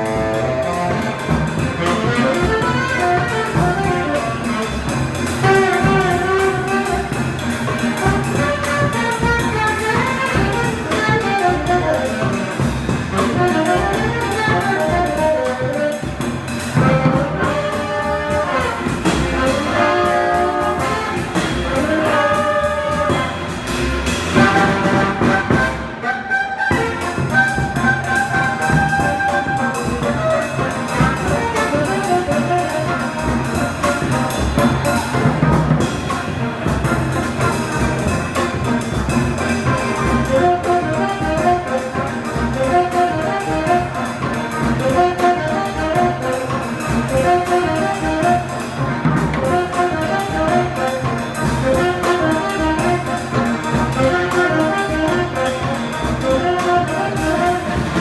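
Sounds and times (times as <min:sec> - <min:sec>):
brass horns repeating a riff: 0:00.0 - 0:58.0
jazz band playing: 0:00.0 - 0:58.0.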